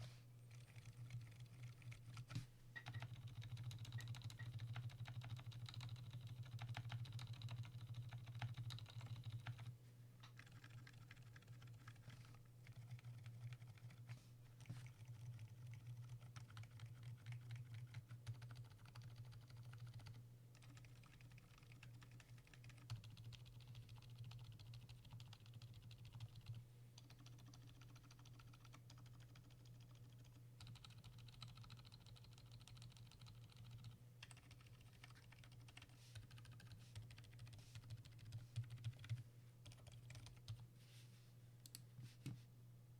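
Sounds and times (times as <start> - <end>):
quiet keyboard typing: 0.5 - 40.7, 41.6 - 42.4.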